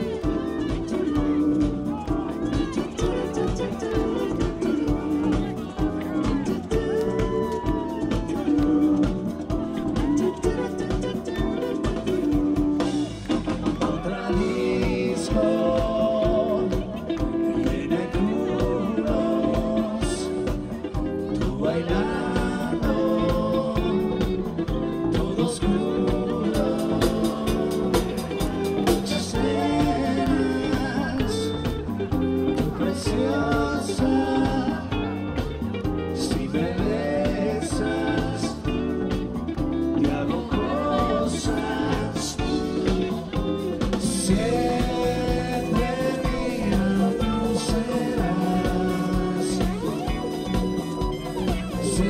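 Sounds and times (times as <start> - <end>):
electric guitar: 0.0 - 52.0
live band playing dance music: 0.0 - 52.0
person singing: 0.0 - 52.0
steady beat: 0.0 - 52.0.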